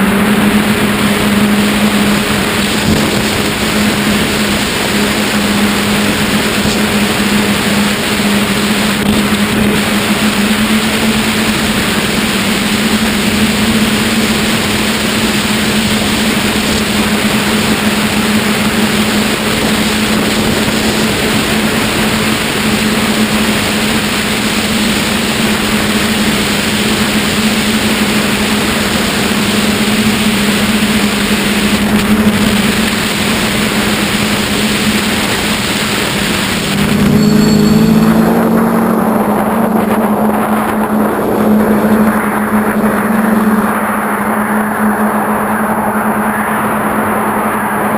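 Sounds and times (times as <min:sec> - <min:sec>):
drone propellers humming: 0:00.0 - 0:47.9.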